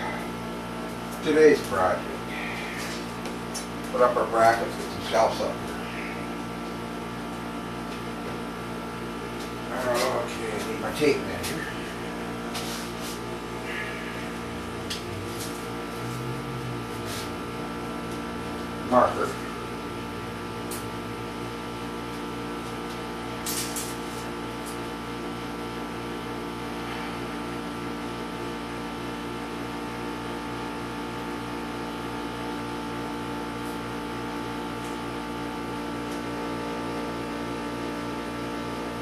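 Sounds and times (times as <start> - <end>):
electrical hum: 0.0 - 39.0.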